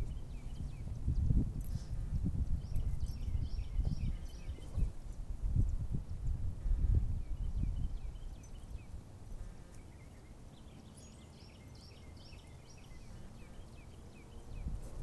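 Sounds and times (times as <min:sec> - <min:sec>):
wind rumble on microphone: 0:00.0 - 0:09.6, 0:12.0 - 0:15.0
birds chirping: 0:00.0 - 0:15.0.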